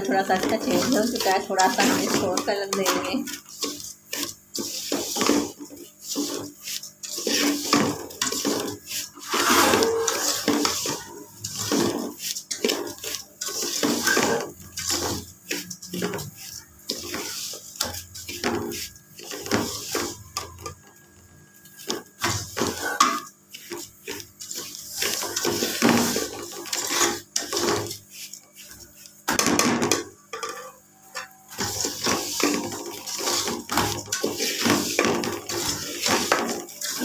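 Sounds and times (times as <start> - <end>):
metal spoon scraping a pot: 0.0 - 21.0, 21.7 - 28.8, 30.3 - 37.0.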